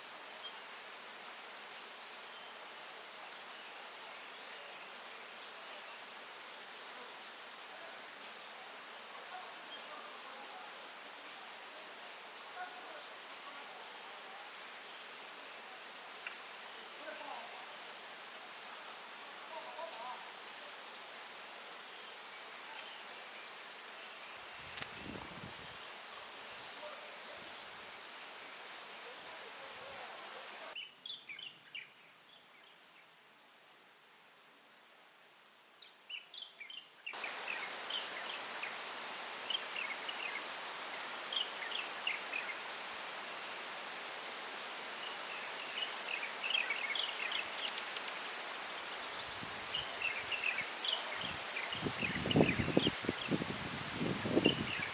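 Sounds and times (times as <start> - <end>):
wind shaking tree leaves: 0.0 - 30.8, 37.2 - 54.9
insect chirp: 0.0 - 33.2, 33.8 - 54.9
soft outdoor hiss: 0.0 - 54.9.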